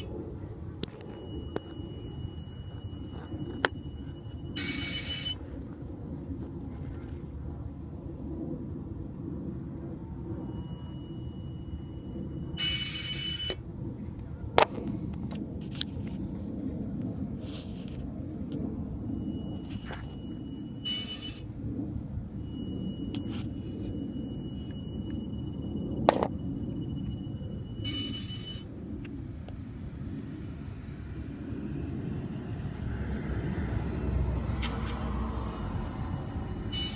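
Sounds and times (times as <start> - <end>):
car engine rumbling: 0.0 - 36.9
high-pitched whine: 0.0 - 36.9.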